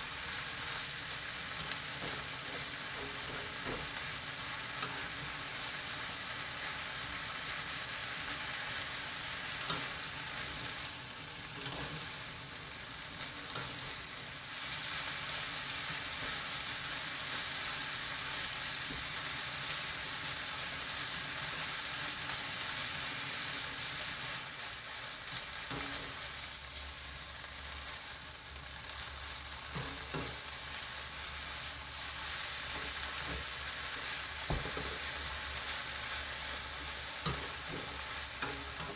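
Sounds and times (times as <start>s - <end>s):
greens sizzling in a pan: 0.0s - 38.9s.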